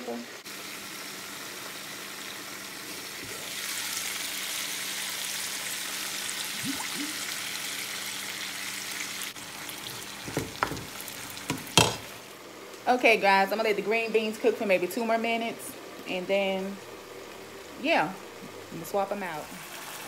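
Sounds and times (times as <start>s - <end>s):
green beans sizzling in a skillet: 0.0s - 20.0s.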